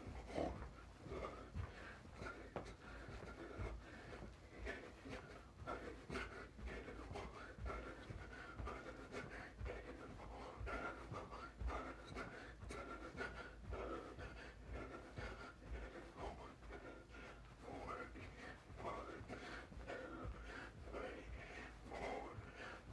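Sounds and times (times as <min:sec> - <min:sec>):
feet thumping on carpet: 0:00.0 - 0:22.9
heavy panting: 0:00.0 - 0:22.9.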